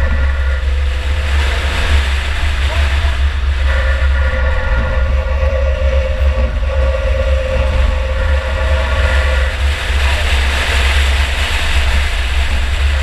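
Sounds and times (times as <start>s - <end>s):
race car engine rumble: 0.0s - 13.0s
rush of noise: 0.0s - 13.0s
steady whine: 0.0s - 13.0s.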